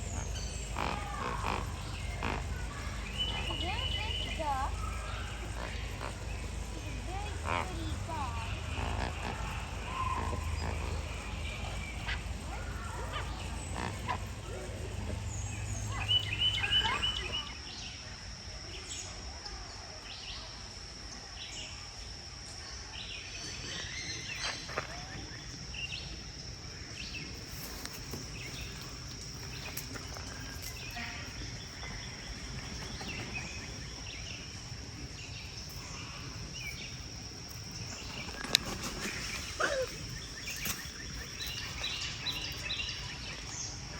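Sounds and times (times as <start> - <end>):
birds calling: 0.0 - 18.0, 23.0 - 43.9
short insect chirps: 0.0 - 43.9.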